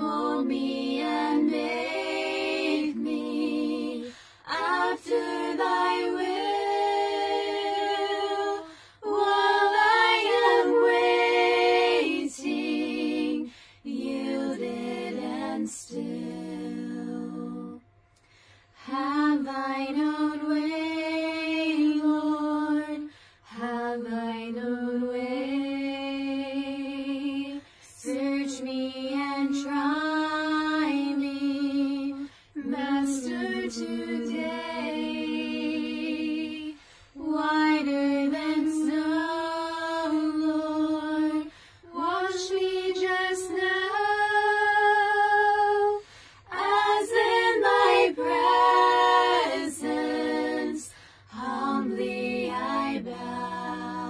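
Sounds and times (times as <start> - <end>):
women singing a cappella harmony: 0.0 - 54.0.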